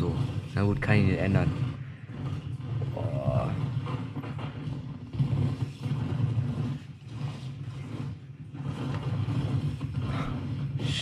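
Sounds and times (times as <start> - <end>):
bike tyre noise rushing: 0.0 - 11.0.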